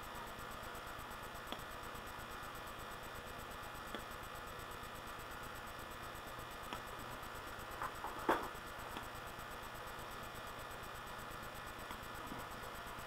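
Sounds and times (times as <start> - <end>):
low electrical hum and hiss: 0.0 - 13.0.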